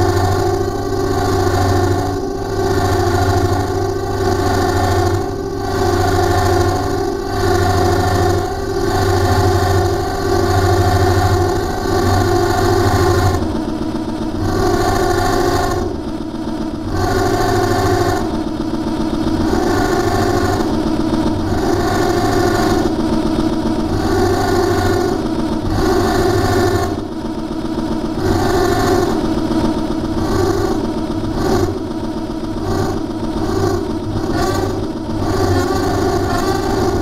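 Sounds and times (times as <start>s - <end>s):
buzzing accordion drone: 0.0s - 37.0s
steady low hum: 0.0s - 37.0s.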